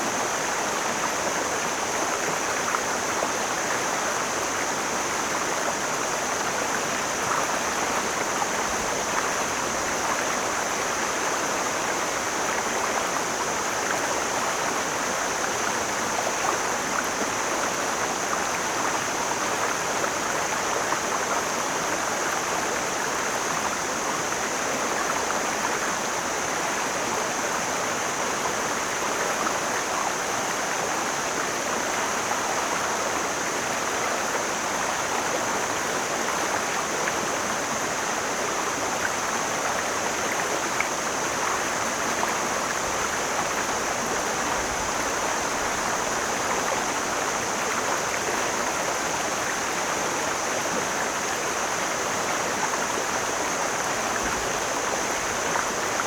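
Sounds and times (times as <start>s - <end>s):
mountain stream flowing: 0.0s - 56.0s
steady high-pitched hiss: 0.0s - 56.0s.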